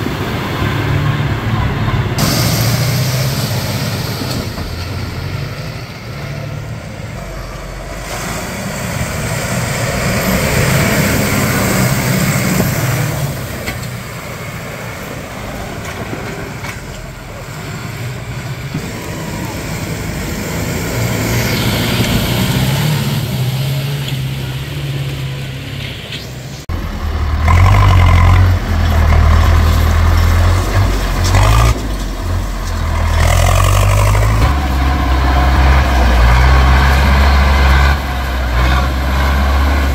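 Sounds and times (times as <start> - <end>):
diesel tractor engines working hard: 0.0 - 39.9.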